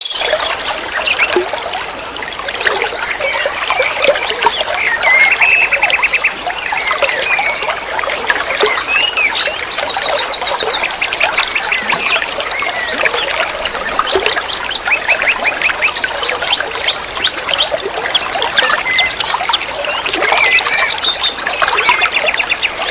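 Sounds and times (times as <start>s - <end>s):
songbird chirping and trilling: 0.0s - 22.9s.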